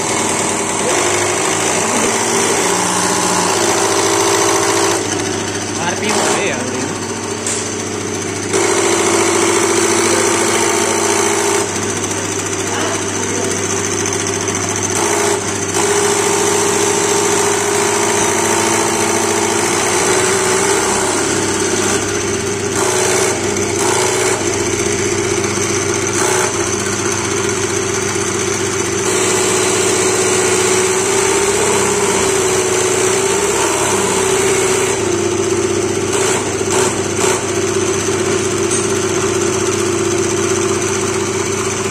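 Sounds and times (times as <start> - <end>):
test bench mechanical hum and whine: 0.0 - 41.9.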